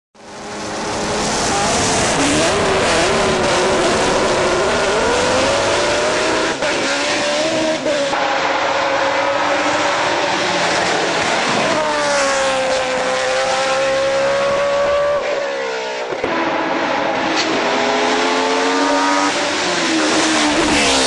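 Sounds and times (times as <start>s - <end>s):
racing engine at high revs: 0.2s - 21.0s.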